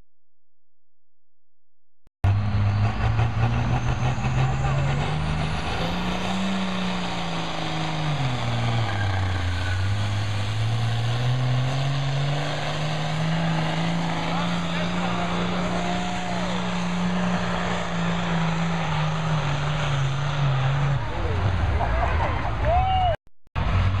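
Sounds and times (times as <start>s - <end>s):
tractor diesel engine under load: 2.2s - 22.6s, 23.6s - 24.0s.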